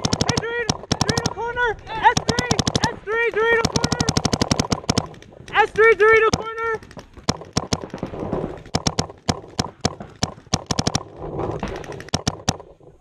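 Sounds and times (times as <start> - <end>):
paintball markers firing: 0.0 - 12.7.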